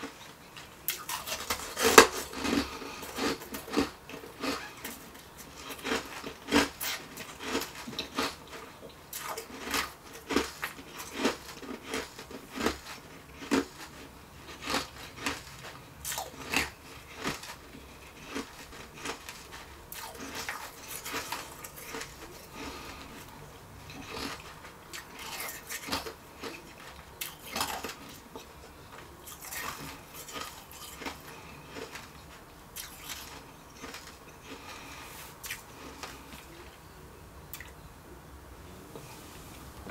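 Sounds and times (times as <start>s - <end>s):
ice being chewed: 0.0s - 36.7s.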